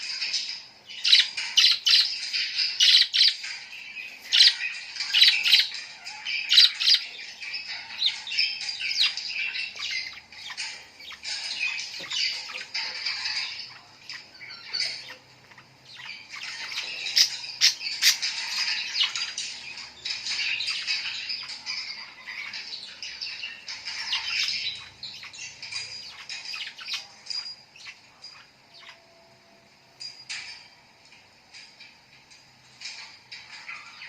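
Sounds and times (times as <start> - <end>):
birds chirping and squawking: 0.0 - 34.0.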